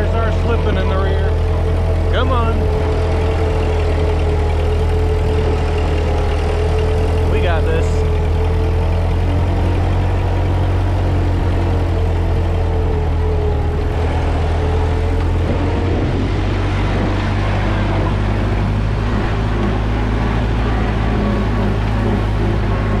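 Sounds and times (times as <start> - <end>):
tractor engine under load: 0.0 - 23.0.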